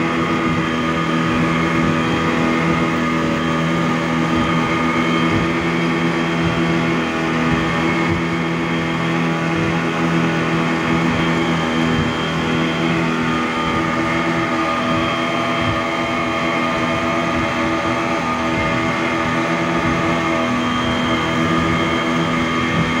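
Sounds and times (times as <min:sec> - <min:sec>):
outboard motors running: 0:00.0 - 0:23.0
wake and spray rushing: 0:00.0 - 0:23.0.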